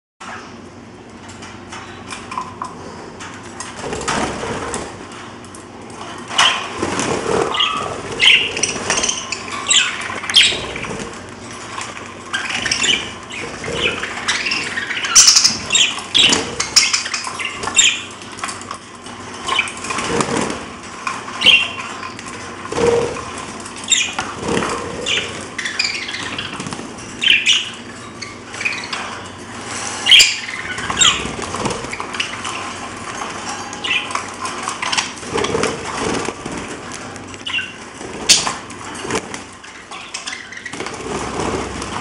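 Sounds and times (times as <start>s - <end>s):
wings fluttering and rustling: 0.2s - 42.0s
parrots chirping and calling: 6.0s - 42.0s.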